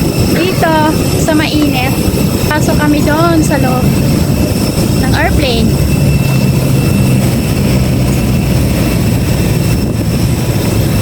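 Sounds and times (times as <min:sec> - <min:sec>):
airliner engine hum and whine: 0:00.0 - 0:11.0.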